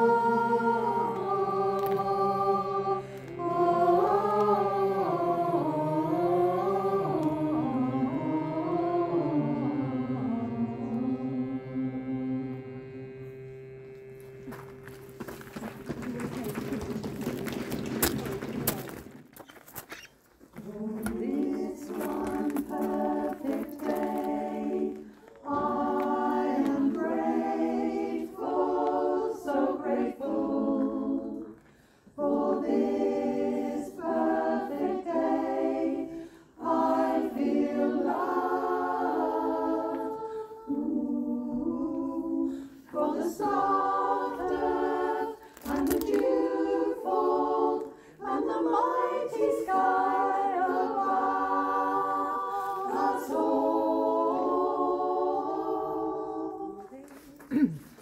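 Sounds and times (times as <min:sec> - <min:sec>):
choir singing unaccompanied: 0:00.0 - 0:19.3, 0:20.6 - 0:57.0.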